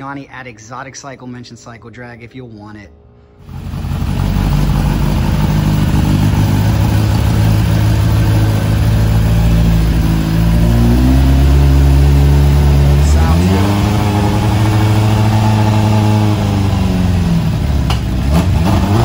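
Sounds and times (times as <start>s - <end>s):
motorcycle engine idling and revving: 3.4s - 19.0s.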